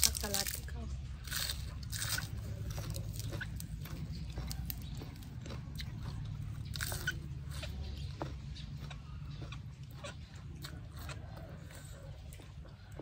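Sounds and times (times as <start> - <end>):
chewing crunchy lettuce: 0.0 - 13.0.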